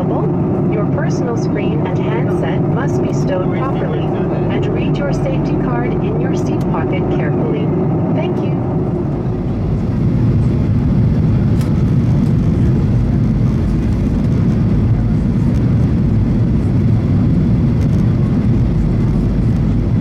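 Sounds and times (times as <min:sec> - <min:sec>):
jet engine cabin rumble: 0:00.0 - 0:20.0.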